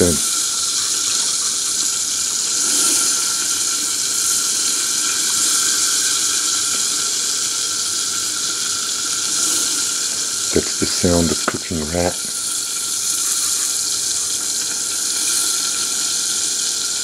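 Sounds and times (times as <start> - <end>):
meat sizzling in grease: 0.0 - 17.0.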